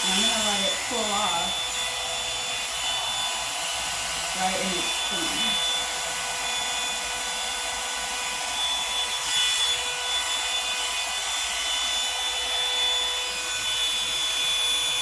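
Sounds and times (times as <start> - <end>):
hot-air brush dryer running: 0.0 - 15.0.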